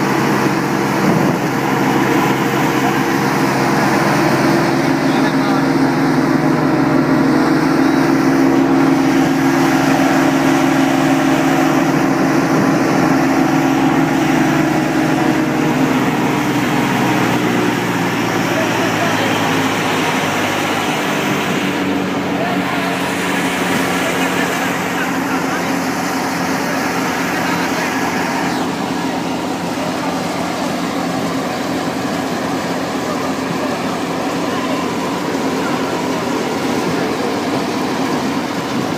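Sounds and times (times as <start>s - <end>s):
thresher and tractor engine humming: 0.0s - 38.9s.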